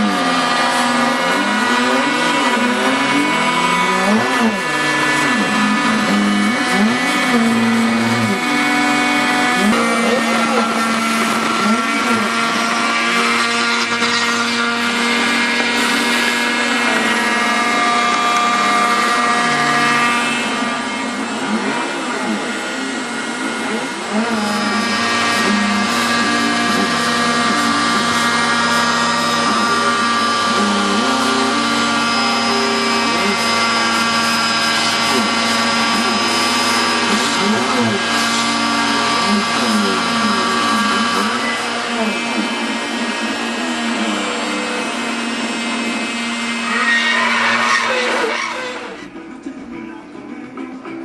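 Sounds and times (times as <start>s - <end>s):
router spindle motor cutting wood: 0.0s - 49.2s
stepper motor whines: 0.0s - 49.3s.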